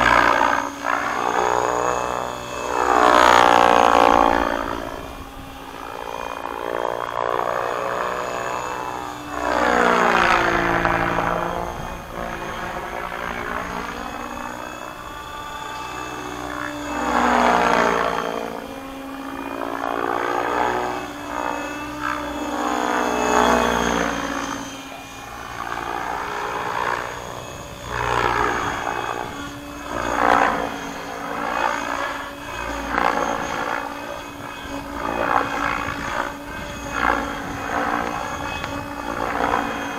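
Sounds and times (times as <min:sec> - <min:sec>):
rc helicopter rotor hum: 0:00.0 - 0:39.9.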